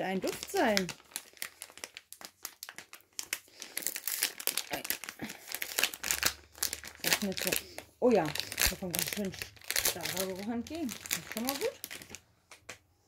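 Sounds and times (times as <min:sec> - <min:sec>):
plastic foil pouch crinkling: 0:00.0 - 0:12.2.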